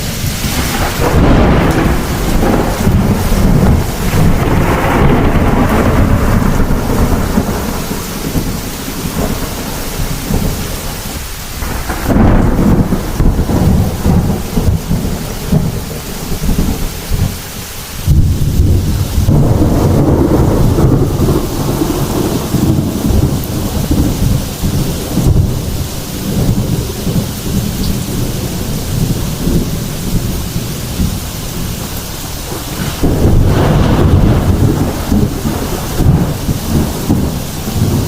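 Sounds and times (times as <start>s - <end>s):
heavy rain: 0.0s - 38.0s
rolling thunder: 0.0s - 38.0s.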